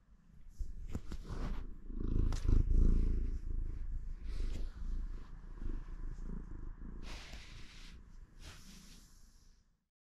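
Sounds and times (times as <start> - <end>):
cat purring: 0.5 - 9.5.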